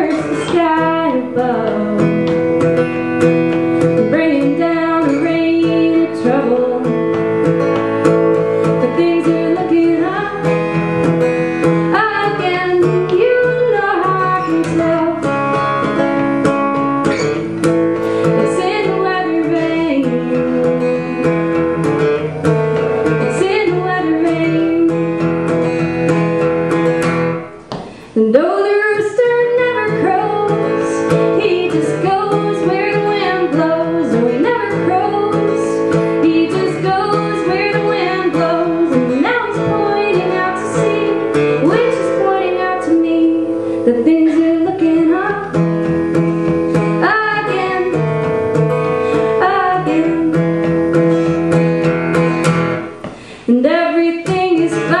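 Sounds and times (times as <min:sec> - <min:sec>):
woman singing: 0:00.0 - 0:07.6, 0:08.3 - 0:17.5, 0:18.2 - 0:25.6, 0:28.1 - 0:51.7, 0:53.2 - 0:55.0
acoustic guitar: 0:00.0 - 0:55.0.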